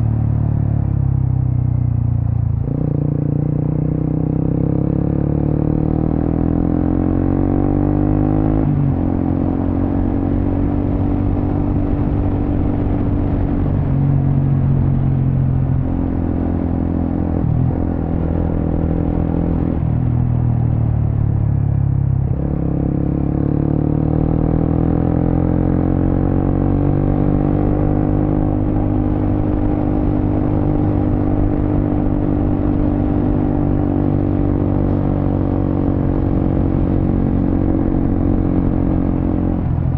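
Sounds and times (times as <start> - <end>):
motorcycle engine revving: 2.6 - 20.2, 22.1 - 39.9.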